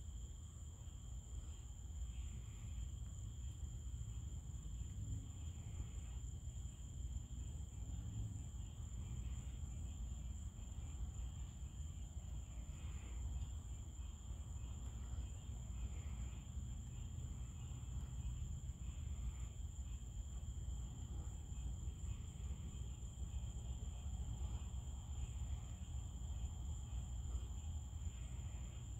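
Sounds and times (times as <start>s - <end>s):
crickets trilling: 0.0s - 28.9s.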